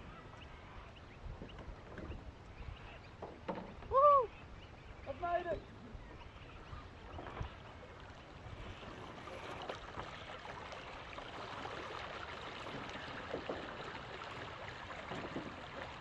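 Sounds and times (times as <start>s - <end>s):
water rushing along a boat hull: 0.0s - 16.0s.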